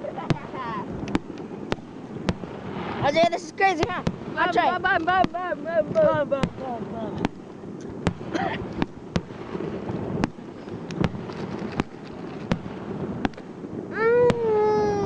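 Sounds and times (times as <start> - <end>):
fireworks bursting: 0.0 - 15.0
steady rumbling haze: 0.0 - 15.0.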